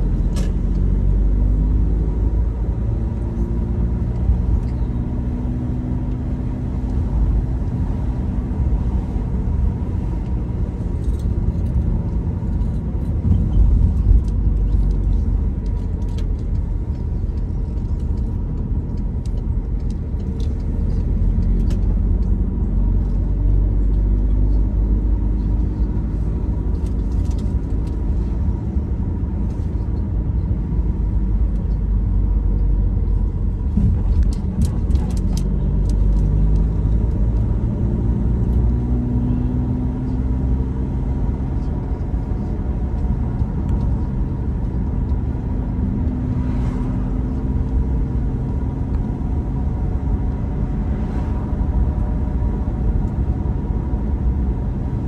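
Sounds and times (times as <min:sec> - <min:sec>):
car engine: 0:00.0 - 0:55.0
road rumble: 0:00.0 - 0:55.0.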